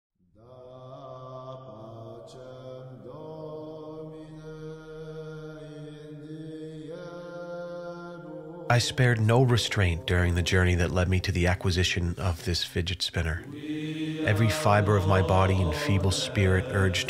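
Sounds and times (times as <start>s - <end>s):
slow chant-like music: 0.2s - 12.3s, 13.2s - 17.0s.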